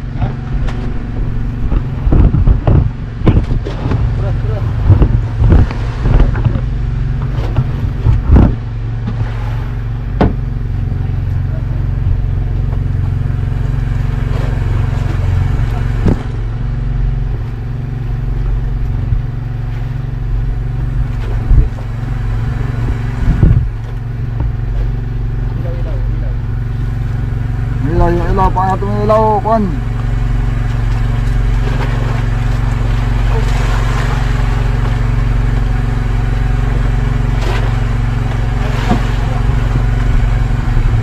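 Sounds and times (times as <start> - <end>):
knocks and thumps on hull: 0.0 - 27.5, 29.9 - 41.0
boat engine droning: 0.0 - 41.0.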